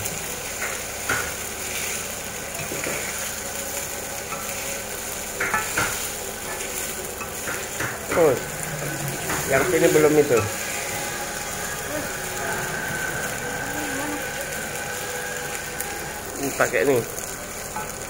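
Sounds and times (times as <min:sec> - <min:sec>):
rice sizzling in a wok: 0:00.0 - 0:18.0.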